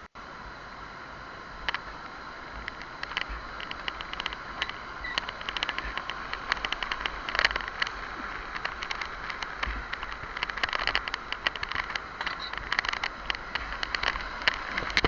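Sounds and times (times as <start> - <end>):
whitewater rushing and splashing: 0.0 - 15.0
wind rumbling on microphone: 0.0 - 15.0
irregular crackles: 1.6 - 15.0.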